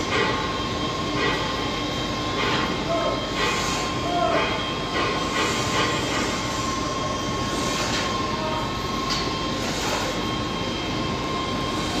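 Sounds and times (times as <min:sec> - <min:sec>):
thin continuous whine: 0:00.0 - 0:12.0.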